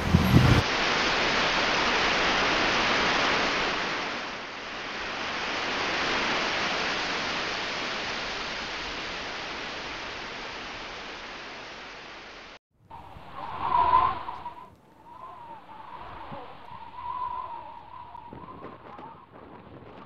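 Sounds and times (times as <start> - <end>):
steady rushing hiss: 0.0 - 19.3.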